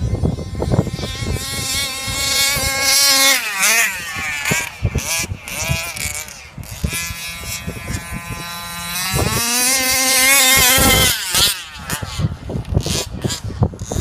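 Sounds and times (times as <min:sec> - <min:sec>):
rc car two-stroke engine revving: 0:00.0 - 0:14.0.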